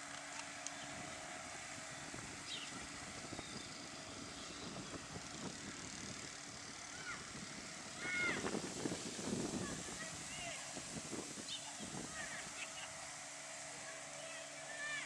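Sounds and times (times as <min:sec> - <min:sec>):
distant outboard motor drone: 0:00.0 - 0:15.0
water hissing: 0:00.0 - 0:15.0.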